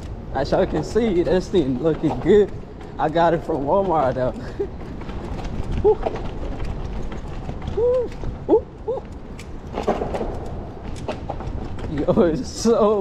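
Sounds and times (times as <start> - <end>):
scooter rumbling over cobbles: 0.0 - 13.0.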